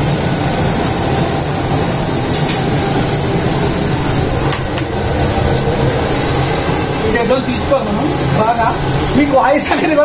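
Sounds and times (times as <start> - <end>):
gas burner roaring: 0.0 - 10.0.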